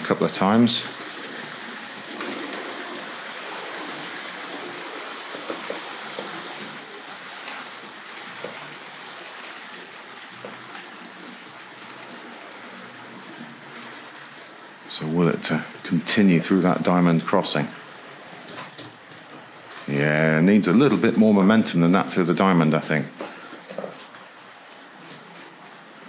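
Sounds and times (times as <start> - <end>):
model train motor whirring: 0.0 - 22.0.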